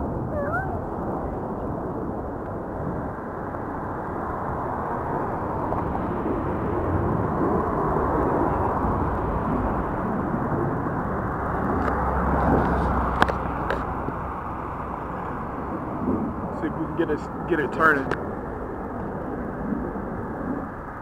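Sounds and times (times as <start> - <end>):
distant jet rumble: 0.0 - 21.0.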